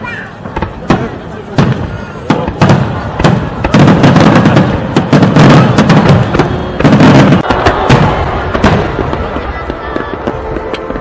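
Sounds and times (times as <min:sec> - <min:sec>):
deep fireworks booms: 0:00.0 - 0:11.0
fireworks bangs and crackles: 0:00.0 - 0:11.0.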